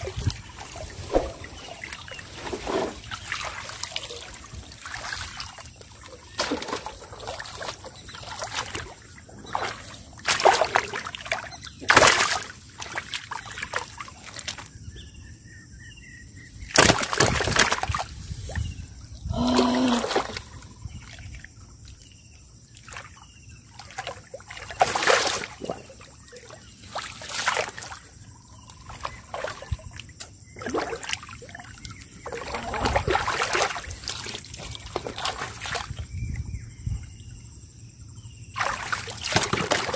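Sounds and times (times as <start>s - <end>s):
splashing in muddy water: 0.0s - 14.8s, 16.7s - 22.1s, 22.7s - 36.4s, 38.5s - 39.9s.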